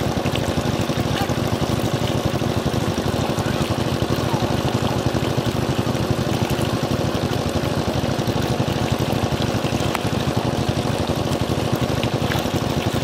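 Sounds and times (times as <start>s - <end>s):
muddy water pouring: 0.0s - 13.0s
small engine running: 0.0s - 13.0s.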